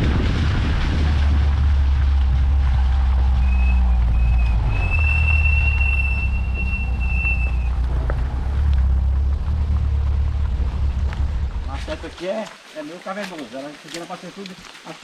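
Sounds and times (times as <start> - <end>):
motor vehicle rumble: 0.0 - 12.2.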